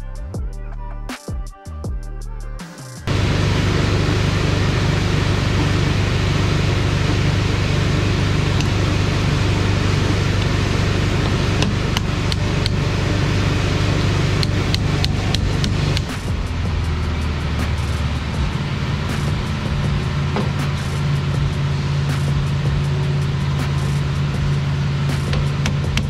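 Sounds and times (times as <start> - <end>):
cutoff wheel grinding steel: 3.1 - 26.0.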